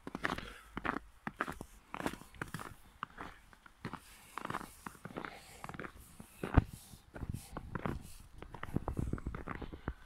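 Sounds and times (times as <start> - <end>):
footsteps crunching through snow: 0.0 - 10.0.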